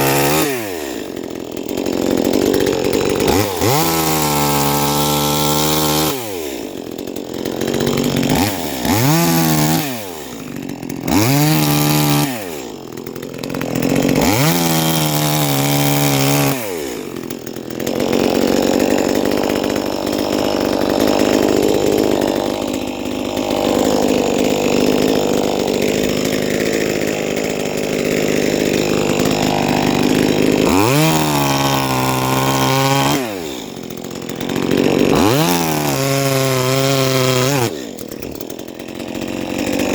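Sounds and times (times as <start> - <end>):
chainsaw cutting wood: 0.0 - 39.9
chainsaw revving: 0.0 - 39.9.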